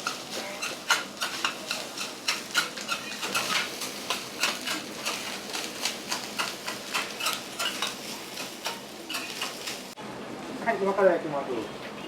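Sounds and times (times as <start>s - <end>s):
metal spatulas scraping on griddle: 0.0s - 10.0s
light sizzle: 0.0s - 11.7s.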